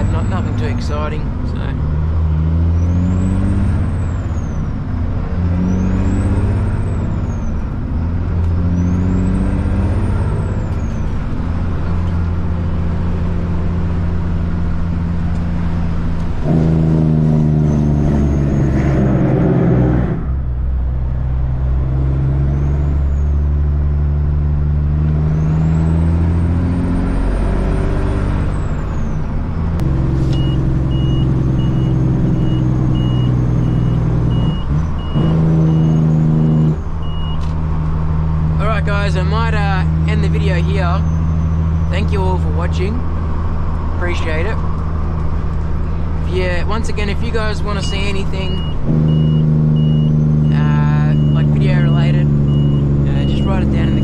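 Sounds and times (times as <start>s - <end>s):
truck diesel engine shifting gears: 0.0s - 54.0s.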